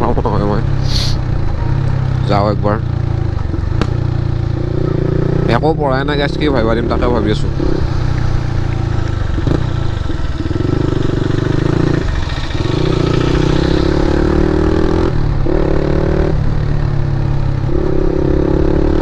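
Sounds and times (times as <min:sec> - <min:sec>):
motorcycle engine under throttle: 0:00.0 - 0:19.0.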